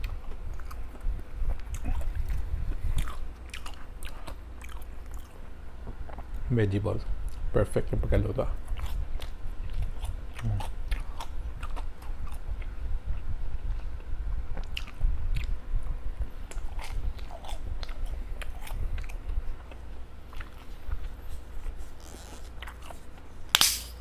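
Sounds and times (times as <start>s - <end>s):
chewing and crunching: 0.0s - 6.4s, 8.3s - 23.5s.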